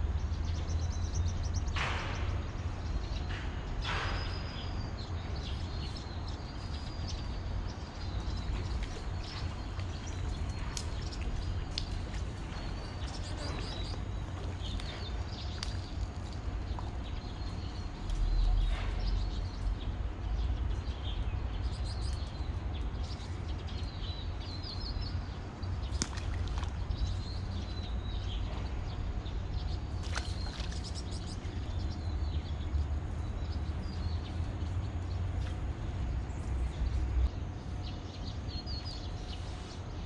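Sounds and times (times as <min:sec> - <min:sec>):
small birds chirping: 0:00.0 - 0:40.0
steady low rumble: 0:00.0 - 0:40.0.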